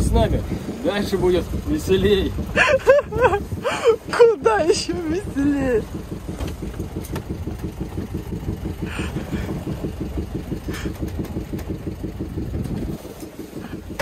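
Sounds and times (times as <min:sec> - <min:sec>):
boat engine pulsing: 0:00.0 - 0:14.0.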